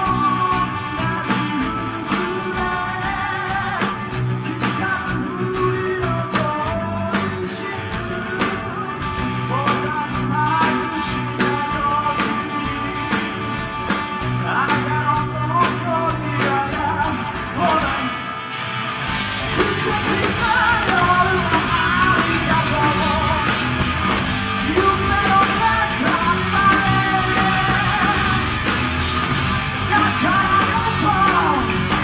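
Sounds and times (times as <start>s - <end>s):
man singing: 0.0s - 18.4s, 19.4s - 23.9s, 24.5s - 32.0s
heavy metal band playing: 0.0s - 32.0s.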